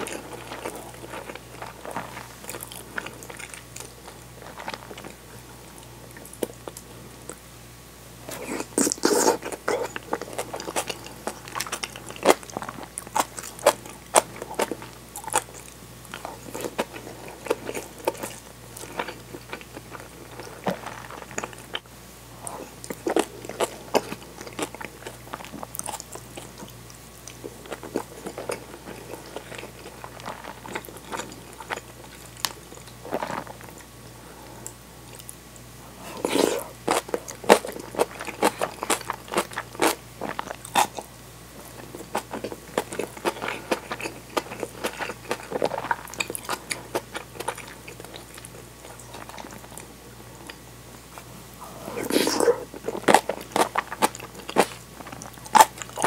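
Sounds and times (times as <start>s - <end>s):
close-miked chewing: 0.0s - 7.4s, 8.3s - 33.9s, 34.6s - 56.0s.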